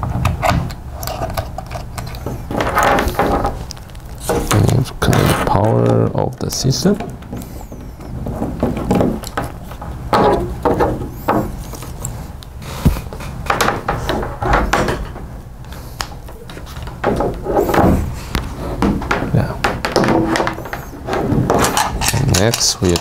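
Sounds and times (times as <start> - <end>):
cables rubbing and rustling: 0.0 - 23.0.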